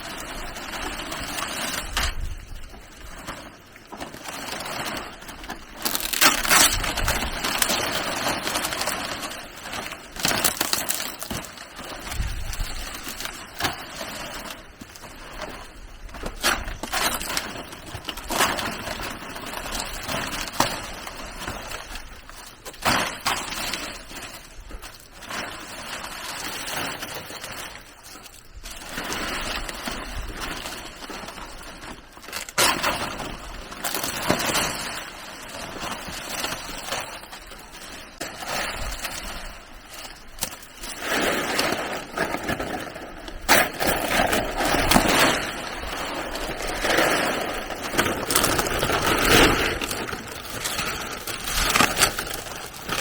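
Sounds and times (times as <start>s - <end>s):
rustling and crackling: 0.0s - 53.0s.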